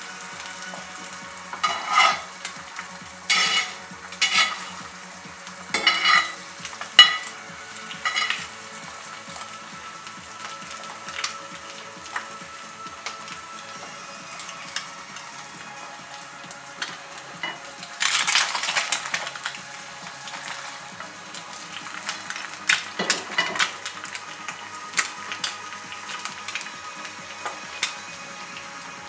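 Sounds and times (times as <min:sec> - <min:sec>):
egg sizzling in hot oil: 0:00.0 - 0:29.0.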